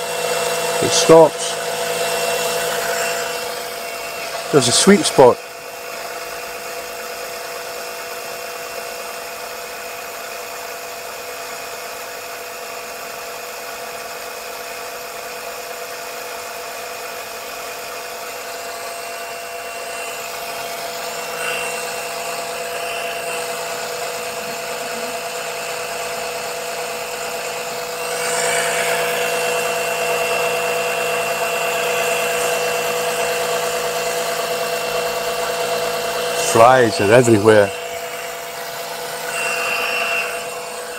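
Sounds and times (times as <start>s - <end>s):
small oil suction pump running: 0.0s - 40.9s.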